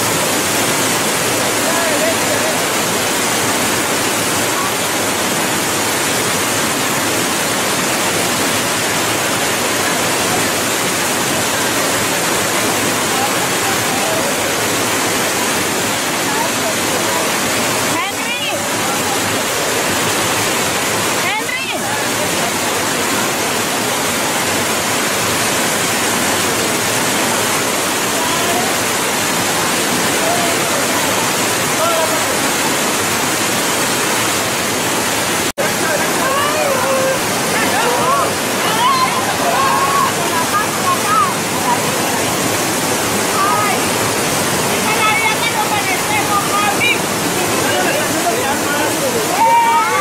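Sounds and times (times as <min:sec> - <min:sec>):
river water rushing over a weir: 0:00.0 - 0:50.0.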